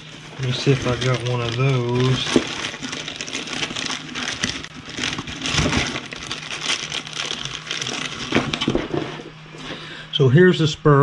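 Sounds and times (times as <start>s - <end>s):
packaging rustling: 0.0s - 9.4s.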